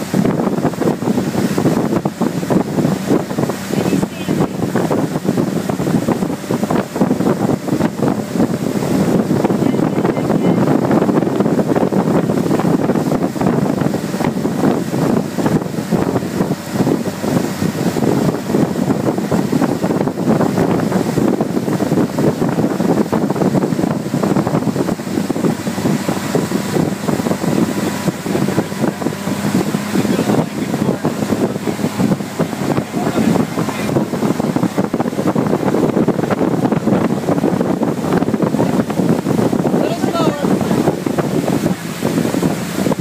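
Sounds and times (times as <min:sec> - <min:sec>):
boat wake rushing: 0:00.0 - 0:43.0
outboard motor running: 0:00.0 - 0:43.0
wind buffeting microphone: 0:00.0 - 0:43.0.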